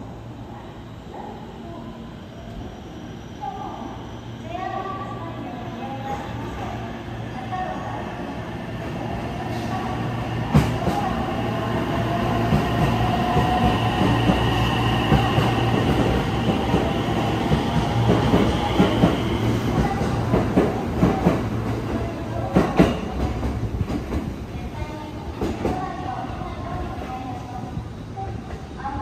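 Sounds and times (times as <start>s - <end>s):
train rumble: 3.4s - 29.0s.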